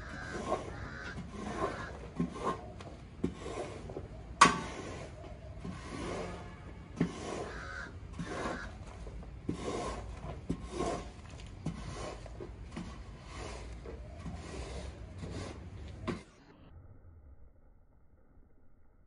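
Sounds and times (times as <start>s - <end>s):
scraper scraping wet rug: 0.0s - 16.4s.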